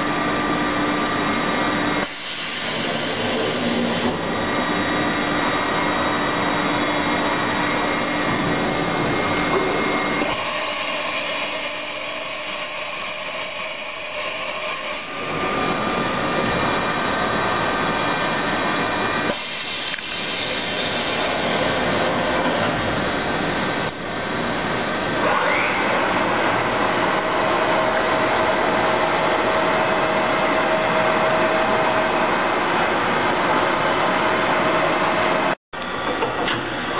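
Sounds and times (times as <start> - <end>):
machining center running: 0.0 - 36.9.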